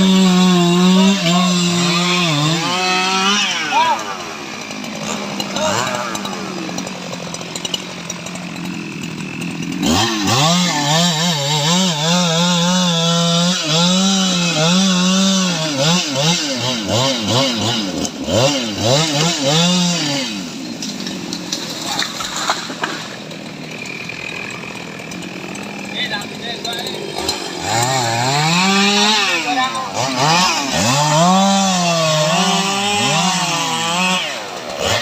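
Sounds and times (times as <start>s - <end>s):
chainsaw engine revving: 0.0s - 35.0s.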